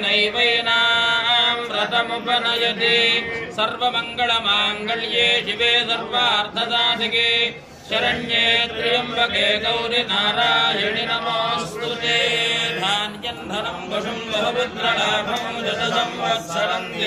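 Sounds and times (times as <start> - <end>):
man chanting mantras: 0.0 - 17.0.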